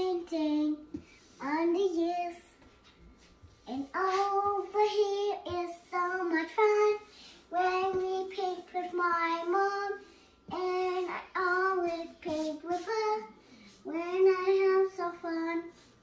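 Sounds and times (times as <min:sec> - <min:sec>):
girl singing: 0:00.0 - 0:02.8, 0:03.6 - 0:15.9.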